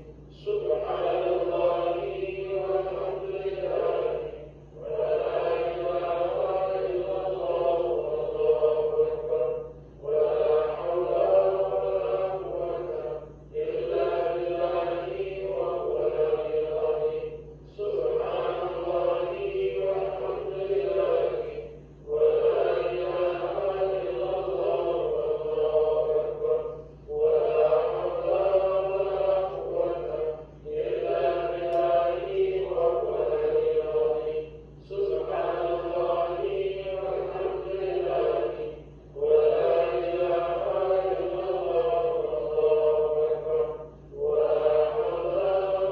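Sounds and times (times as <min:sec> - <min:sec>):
congregation chanting: 0:00.0 - 0:45.9
steady low hum: 0:00.0 - 0:45.9.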